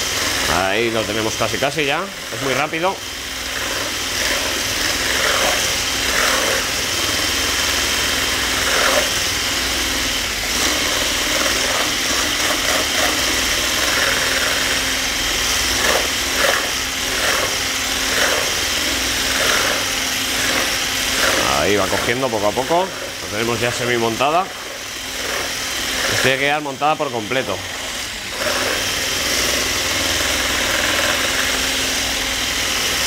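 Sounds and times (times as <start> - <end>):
electric hand mixer whipping cream: 0.0 - 33.0.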